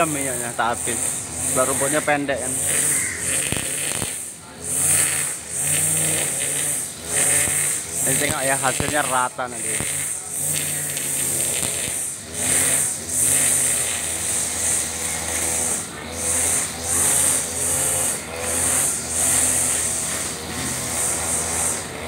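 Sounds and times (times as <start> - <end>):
brush cutter engine running: 0.0 - 22.0
trimmer line whirring through grass: 0.0 - 22.0.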